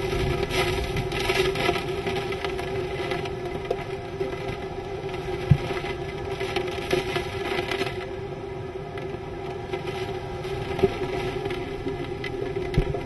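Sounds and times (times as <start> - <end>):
steady low hum: 0.0 - 13.0
strong wind and rain: 0.0 - 13.0.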